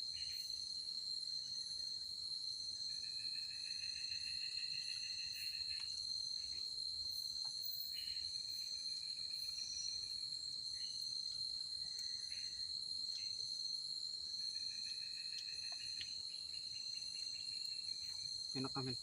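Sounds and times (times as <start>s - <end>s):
high-pitched cricket trill: 0.0s - 19.0s
lower pulsing insect call: 0.0s - 19.0s.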